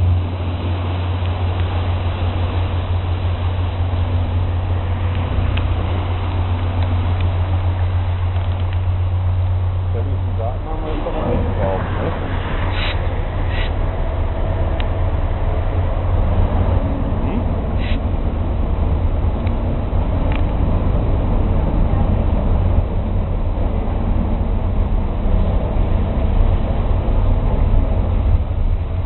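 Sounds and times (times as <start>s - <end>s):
ship engine low rumble: 0.0s - 29.0s.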